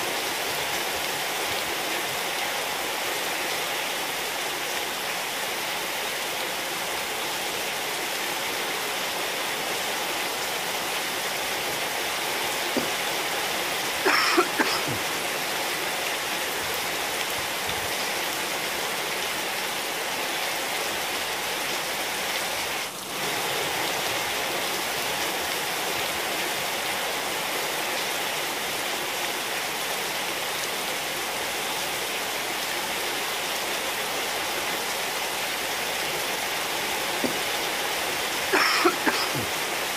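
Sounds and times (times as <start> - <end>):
rain falling on tiles: 0.0 - 39.9.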